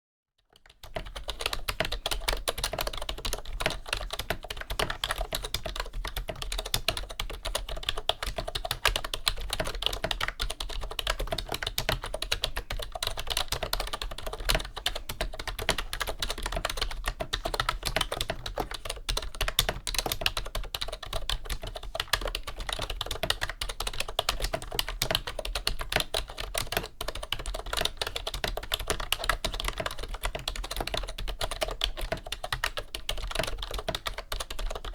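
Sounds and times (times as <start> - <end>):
fast typing on keyboard: 0.5 - 34.9.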